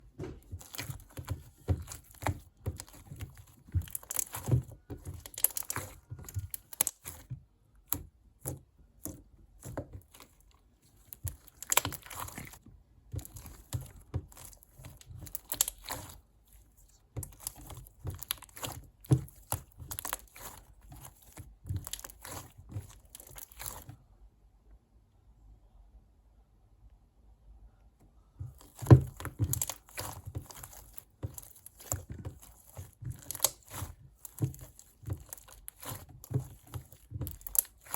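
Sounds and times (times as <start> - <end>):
slime crackling and popping: 0.5 - 23.9, 28.5 - 37.9.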